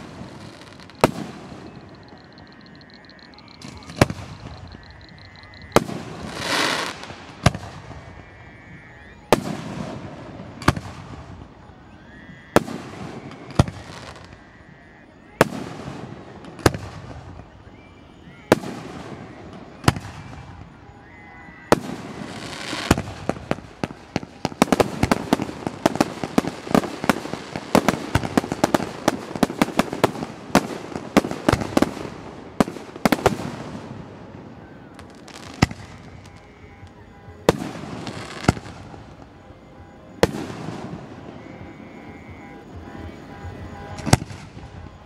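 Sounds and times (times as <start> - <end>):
fireworks crackling: 0.0 - 8.2, 9.3 - 11.6, 12.6 - 14.4, 15.4 - 17.7, 18.5 - 21.0, 21.7 - 41.8, 42.5 - 45.0
fireworks booming: 0.0 - 11.6, 12.5 - 14.5, 18.5 - 20.8, 21.7 - 45.0.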